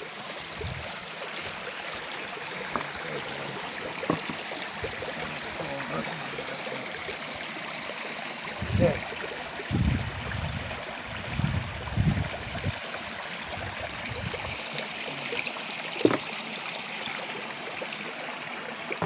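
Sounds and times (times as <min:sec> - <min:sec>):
creek flowing over stones: 0:00.0 - 0:19.0.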